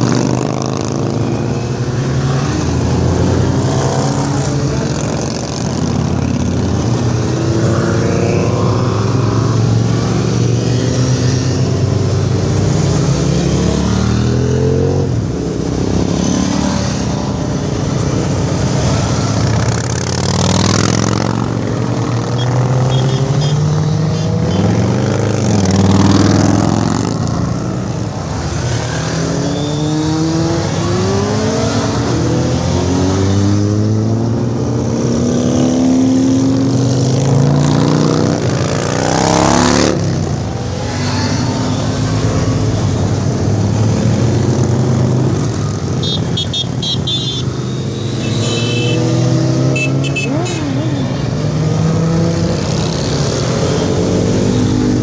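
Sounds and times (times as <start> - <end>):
motorcycles revving past: 0.0 - 55.0.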